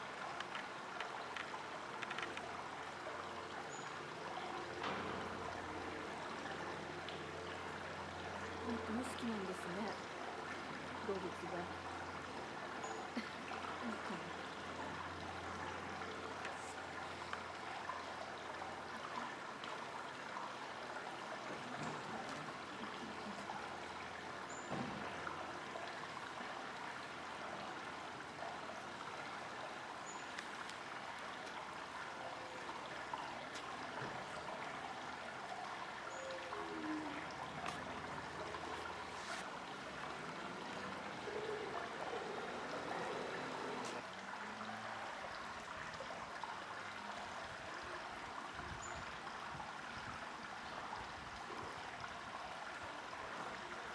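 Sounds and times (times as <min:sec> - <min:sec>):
running water rushing: 0:00.0 - 0:53.9.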